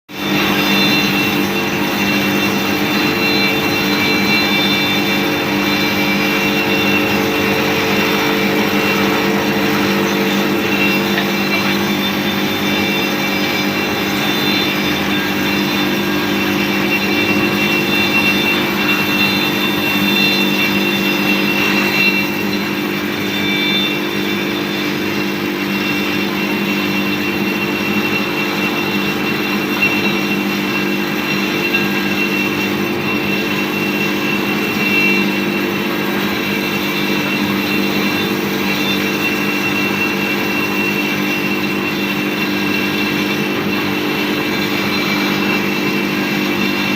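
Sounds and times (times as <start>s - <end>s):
machine motor humming with whine: 0.1s - 46.9s.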